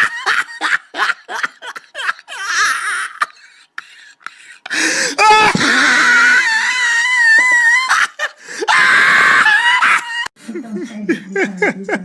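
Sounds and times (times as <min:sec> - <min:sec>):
man laughing hysterically: 0:00.0 - 0:10.3.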